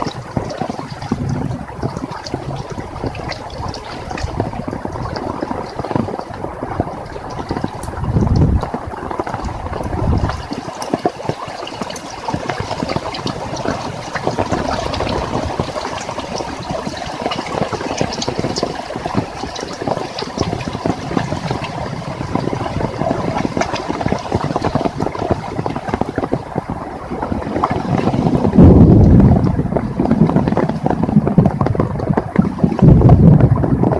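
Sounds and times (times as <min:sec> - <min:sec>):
heavy rain falling: 0:00.0 - 0:33.9
wind buffeting microphone: 0:00.0 - 0:33.9.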